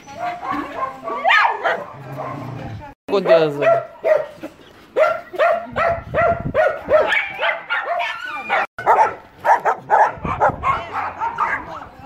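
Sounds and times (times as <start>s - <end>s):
dogs barking: 0.0s - 11.9s.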